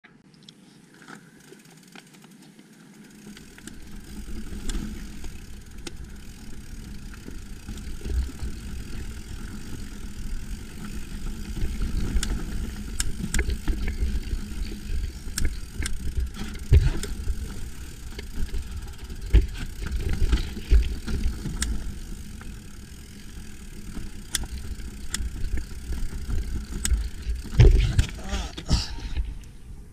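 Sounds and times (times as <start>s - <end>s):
bike clicks and rattles: 0.8s - 29.6s.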